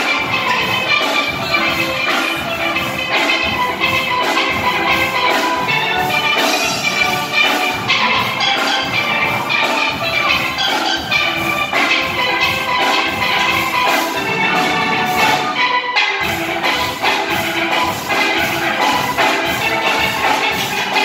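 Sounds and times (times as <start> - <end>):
drum kit beat: 0.0 - 21.0
steel pan band playing: 0.0 - 21.0.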